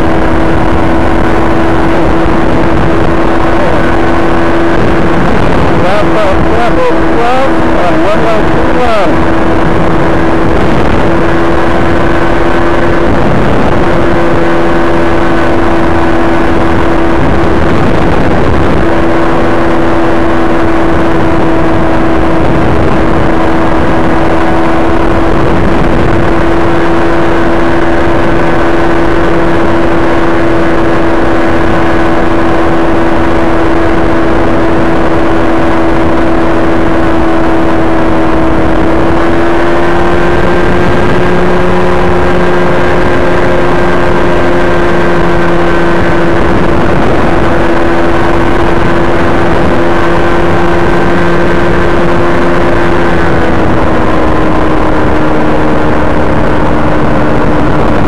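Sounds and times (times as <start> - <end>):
light aircraft engine drone: 0.0 - 58.0
wind rumble on microphone: 0.0 - 58.0.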